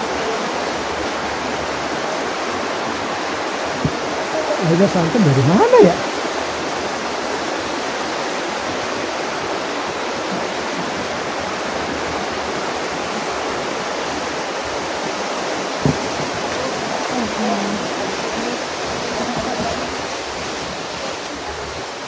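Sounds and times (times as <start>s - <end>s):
rushing flowing water: 0.0s - 22.0s.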